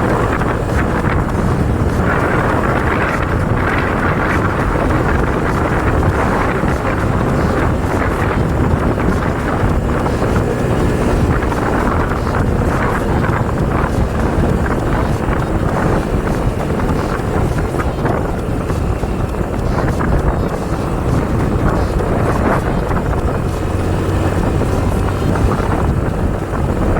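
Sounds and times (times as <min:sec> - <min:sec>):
motorcycle engine running: 0:00.0 - 0:26.9
wind buffeting microphone: 0:00.0 - 0:26.9.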